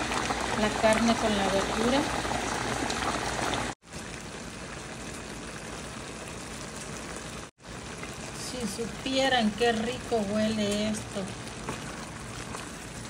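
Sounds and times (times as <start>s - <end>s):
pot of beans boiling: 0.0s - 13.0s
stew simmering in a frying pan: 0.0s - 13.0s.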